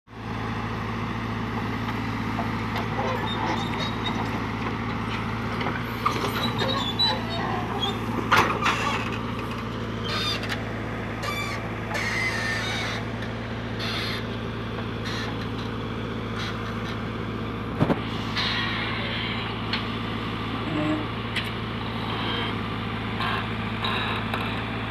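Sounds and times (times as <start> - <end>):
diesel engine running: 0.1 - 24.9.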